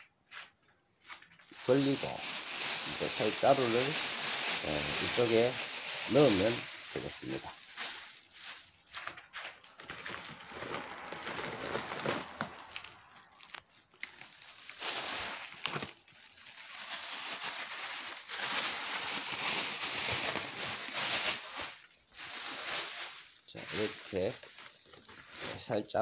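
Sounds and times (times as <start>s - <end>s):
plastic bag crinkling: 1.1s - 26.0s.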